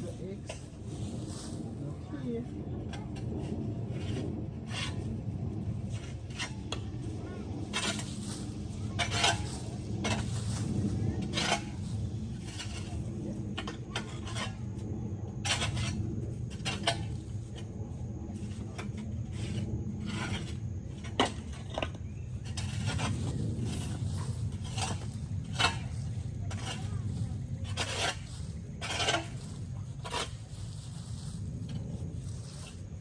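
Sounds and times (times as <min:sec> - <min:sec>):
low rumble: 0:00.0 - 0:33.0
metal scraping and clinking: 0:03.0 - 0:17.8, 0:18.4 - 0:33.0.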